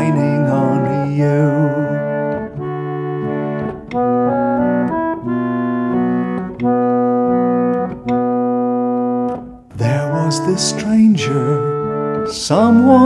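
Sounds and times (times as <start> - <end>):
harmonium playing sustained chords: 0.0 - 13.0.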